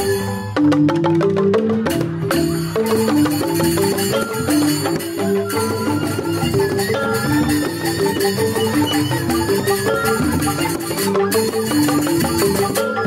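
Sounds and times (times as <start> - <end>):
bamboo xylophones playing: 0.0 - 13.0
drum: 0.0 - 13.0.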